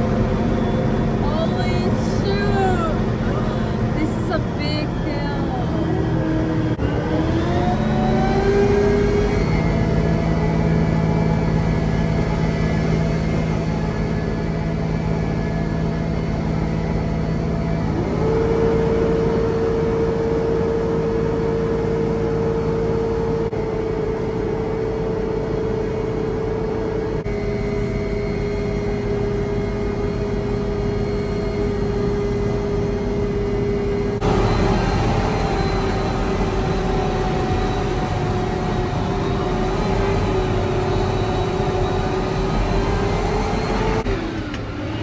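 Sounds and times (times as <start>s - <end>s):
truck diesel engine running: 0.0s - 45.0s.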